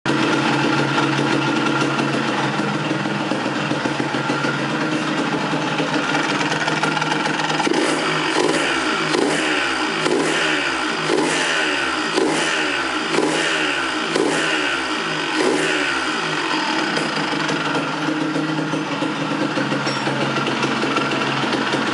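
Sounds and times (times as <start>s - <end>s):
two-stroke engine running: 0.1s - 21.9s.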